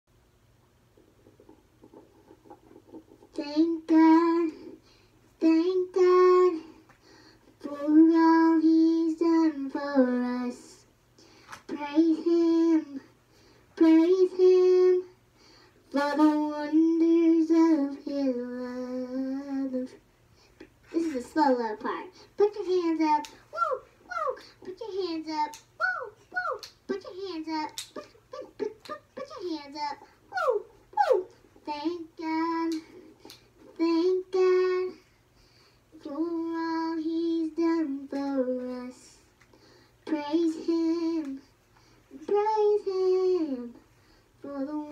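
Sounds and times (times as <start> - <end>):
girl singing unaccompanied: 3.0 - 10.9, 11.6 - 20.0, 20.8 - 35.2, 35.9 - 44.9.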